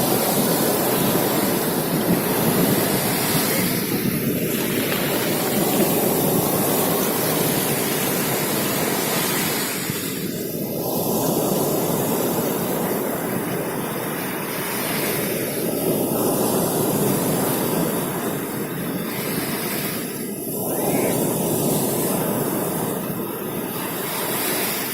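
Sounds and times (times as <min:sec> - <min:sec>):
rough sea waves rushing: 0:00.0 - 0:24.9.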